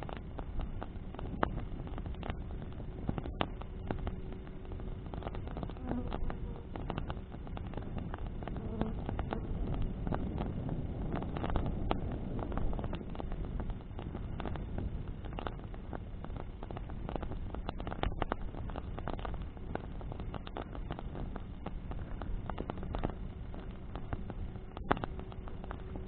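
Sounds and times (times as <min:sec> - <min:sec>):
bonfire crackling and popping: 0:00.0 - 0:26.0
low rush of flame in wind: 0:00.0 - 0:26.0.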